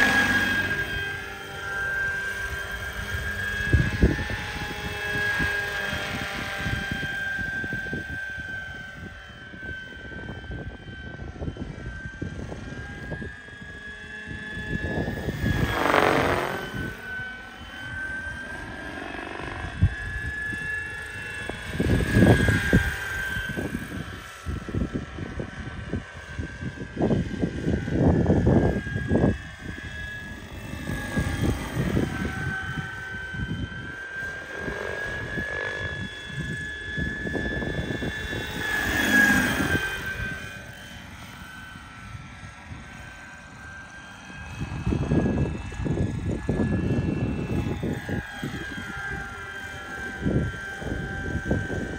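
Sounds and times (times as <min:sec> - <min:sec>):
model helicopter whine: 0:00.0 - 0:51.9.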